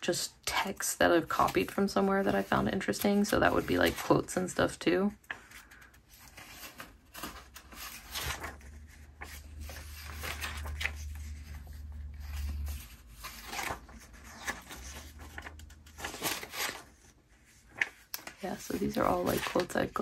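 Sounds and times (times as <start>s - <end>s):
paper pages turning: 0.6s - 20.0s.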